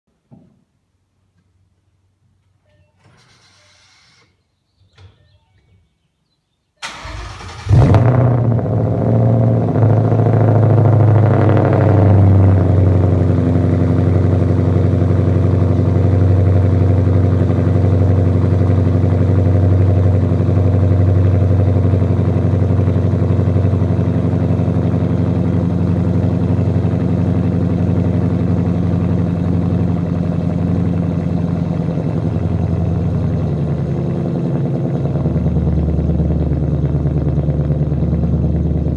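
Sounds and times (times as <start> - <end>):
car engine starting and idling: 6.8 - 38.9.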